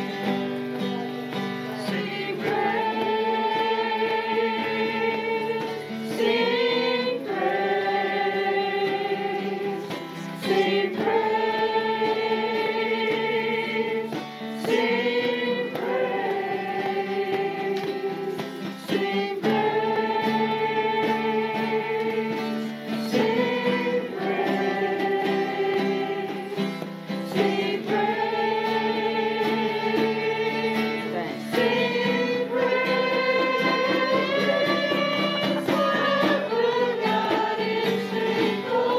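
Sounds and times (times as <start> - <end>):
congregation singing: 0.0 - 38.9
instrumental accompaniment: 0.0 - 38.9.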